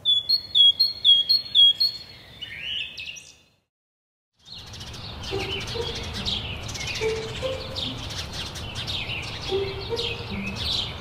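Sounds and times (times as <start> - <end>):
low steady bird notes: 0.0 - 3.7, 4.4 - 11.0
songbirds chirping: 0.0 - 3.7, 4.4 - 11.0.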